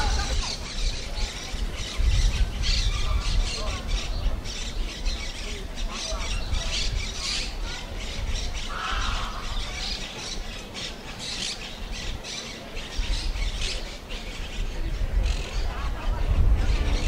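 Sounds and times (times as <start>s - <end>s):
birds squawking: 0.0s - 16.0s.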